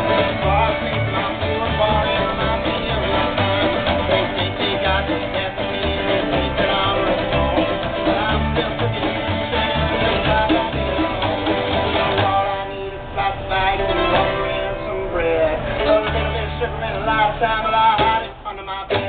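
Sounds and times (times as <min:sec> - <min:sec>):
acoustic guitar picking: 0:00.0 - 0:19.0
mandolin picking: 0:00.0 - 0:19.0
upright bass plucking: 0:00.0 - 0:19.0.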